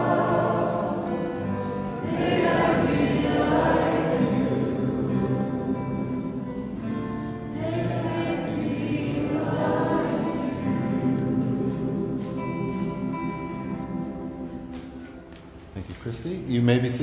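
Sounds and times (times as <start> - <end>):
congregation singing a hymn: 0.0 - 15.4.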